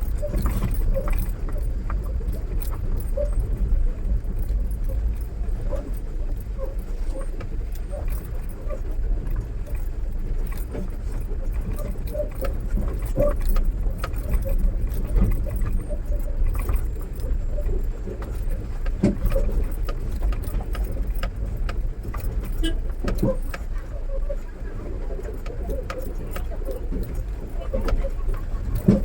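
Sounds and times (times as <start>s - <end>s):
cab rattling and jangling: 0.0s - 29.0s
engine and drivetrain rumble: 0.0s - 29.0s.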